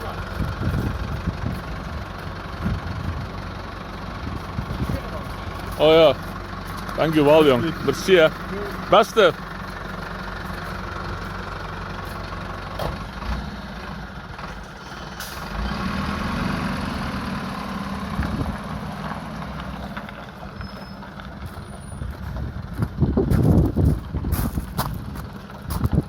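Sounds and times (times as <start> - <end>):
tow truck engine running: 0.0 - 26.0.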